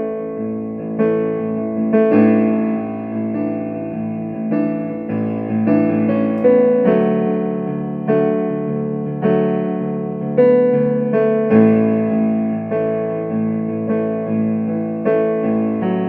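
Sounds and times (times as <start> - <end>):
digital piano playing slow chords: 0.0 - 16.0.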